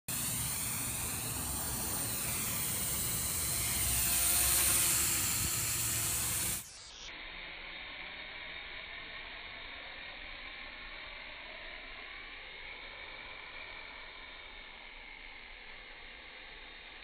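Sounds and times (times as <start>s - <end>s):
toy drone motors whining: 0.1s - 17.0s.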